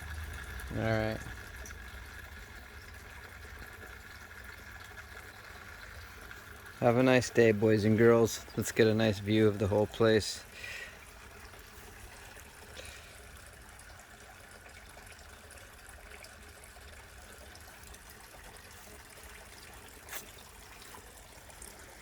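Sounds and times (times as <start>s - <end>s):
small waterfall trickling: 0.0s - 22.0s.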